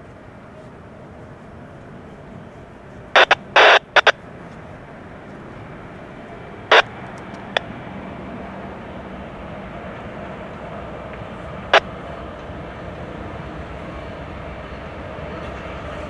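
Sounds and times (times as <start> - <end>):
distant diesel locomotive rumble: 0.0 - 16.0.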